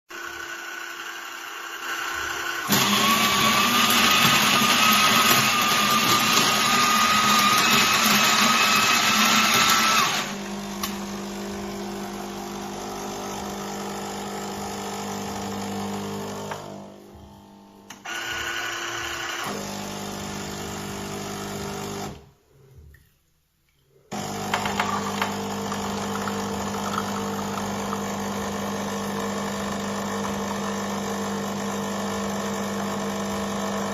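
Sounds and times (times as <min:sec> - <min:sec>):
coffee machine humming: 0:00.1 - 0:22.2, 0:24.1 - 0:33.9
coffee machine grinding: 0:01.9 - 0:16.8, 0:18.1 - 0:22.2, 0:24.1 - 0:33.9.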